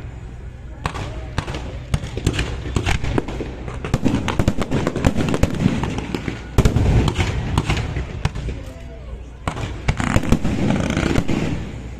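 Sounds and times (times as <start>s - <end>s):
fireworks cracks and bangs: 0.8s - 8.8s, 9.4s - 11.9s.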